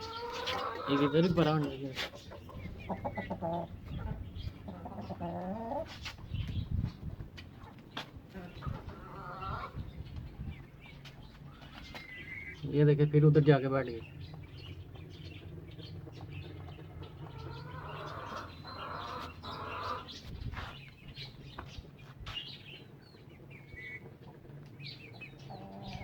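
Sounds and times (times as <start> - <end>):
cage birds chirping: 0.0 - 26.0.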